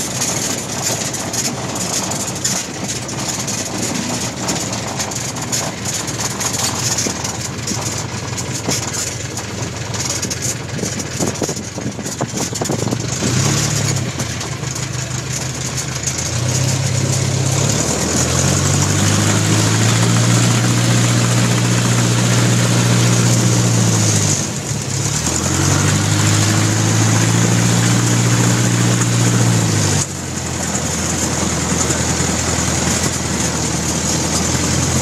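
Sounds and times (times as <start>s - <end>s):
aircraft piston engine: 0.0s - 35.0s
propeller wash and wind: 0.0s - 35.0s.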